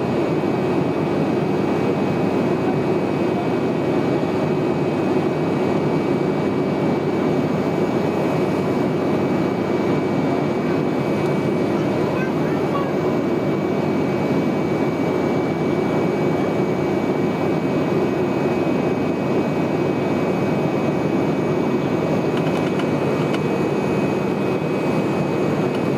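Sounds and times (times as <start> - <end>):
turboprop cabin drone: 0.0 - 25.9.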